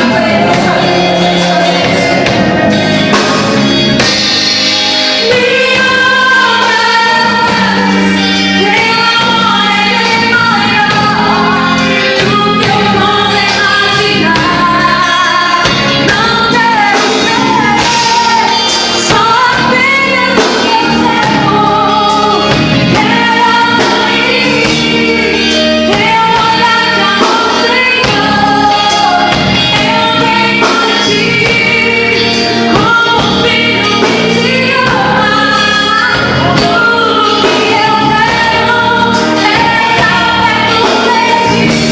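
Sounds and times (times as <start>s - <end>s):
gospel band playing: 0.0s - 41.9s
group singing worship song: 0.0s - 41.9s.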